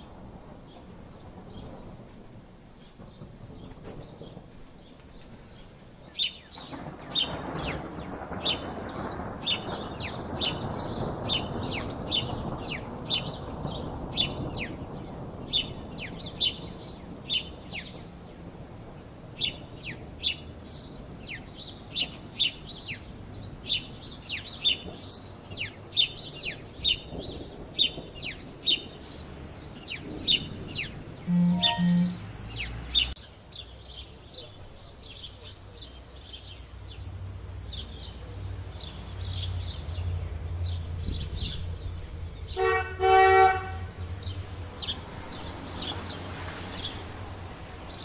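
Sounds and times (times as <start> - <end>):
background noise rush: 0.0 - 48.0
small birds chirping: 2.8 - 18.4, 19.0 - 43.0, 43.7 - 48.0.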